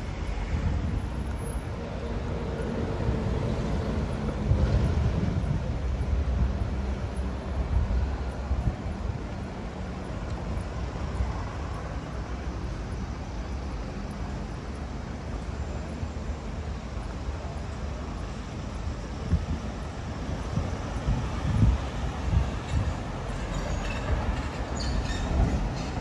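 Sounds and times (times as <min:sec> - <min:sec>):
low rumble of passing vehicles: 0:00.0 - 0:26.0.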